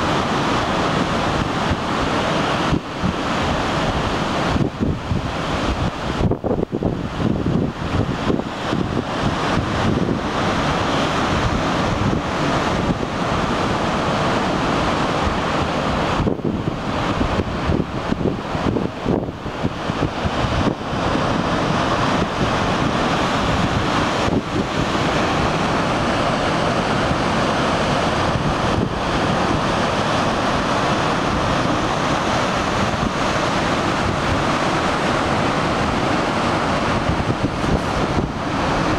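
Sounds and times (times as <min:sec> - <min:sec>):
surf breaking over rocks: 0:00.0 - 0:38.9.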